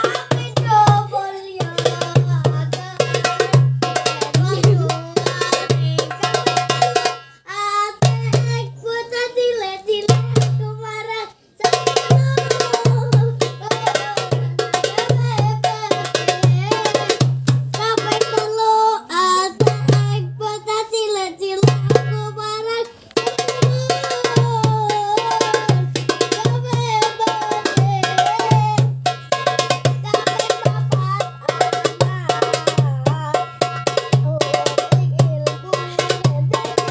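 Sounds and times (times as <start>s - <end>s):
hand drum percussion: 0.0s - 7.3s, 11.6s - 18.6s, 19.6s - 20.6s, 21.6s - 22.5s, 23.2s - 36.9s.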